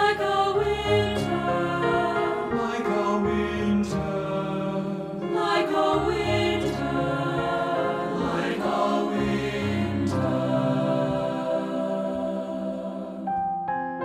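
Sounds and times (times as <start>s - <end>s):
choir singing held notes: 0.0s - 13.7s
piano accompaniment: 0.0s - 14.0s.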